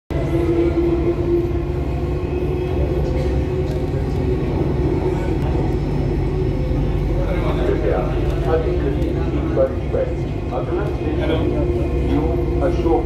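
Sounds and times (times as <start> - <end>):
steady hum: 0.1 - 13.0
train low rumble: 0.1 - 13.0.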